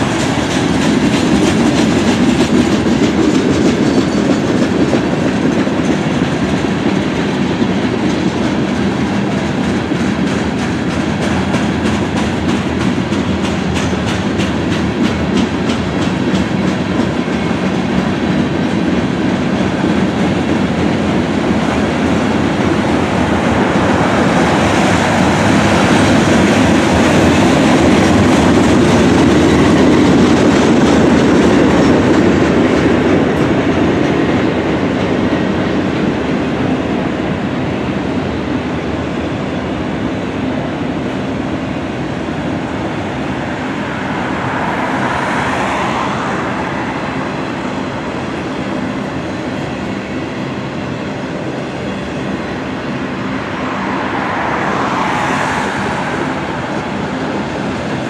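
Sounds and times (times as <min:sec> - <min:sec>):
freight train rumbling and rattling: 0:00.0 - 0:58.0.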